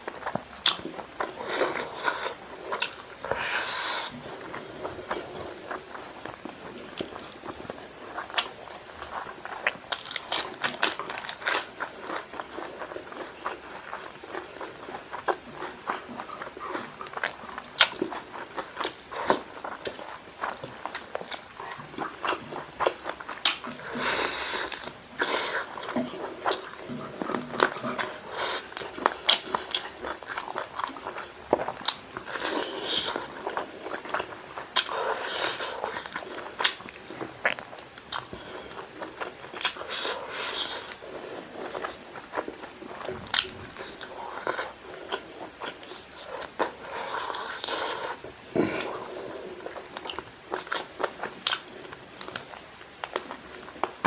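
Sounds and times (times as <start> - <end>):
chewing with wet mouth clicks: 4.5 - 54.0.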